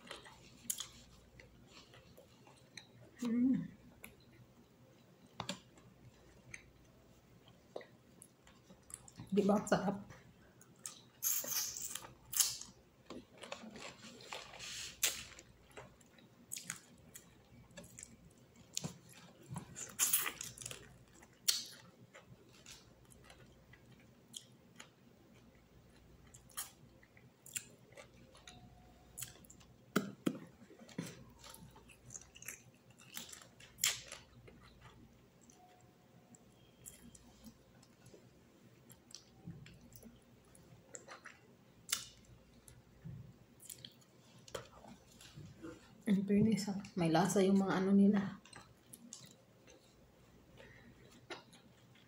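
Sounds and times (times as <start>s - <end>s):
person chewing food: 0.0s - 9.3s, 10.2s - 46.0s, 48.4s - 52.0s.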